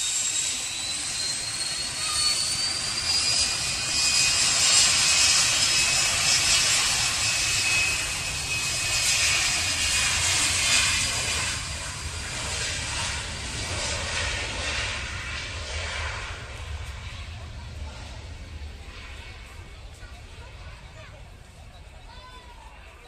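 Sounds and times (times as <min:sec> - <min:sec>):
jet engine whine and rush: 0:00.0 - 0:23.0.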